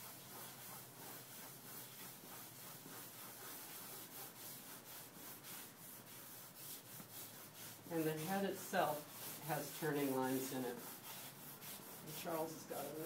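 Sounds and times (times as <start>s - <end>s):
drawing stick rubbing on paper: 0.0s - 13.0s.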